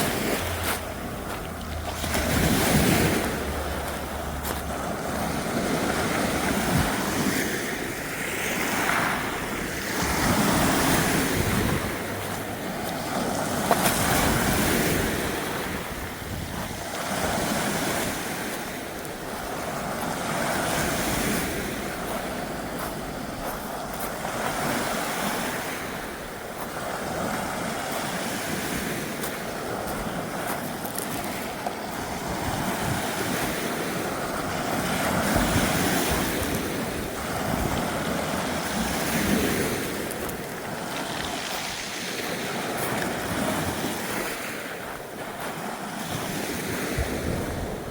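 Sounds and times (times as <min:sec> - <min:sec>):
ocean waves on shore: 0:00.0 - 0:47.9
wind noise: 0:00.0 - 0:47.9.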